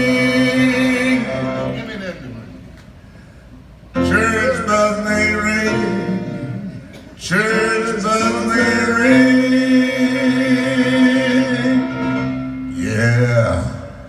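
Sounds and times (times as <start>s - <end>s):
man singing with vibrato: 0.0s - 2.4s, 4.0s - 14.0s.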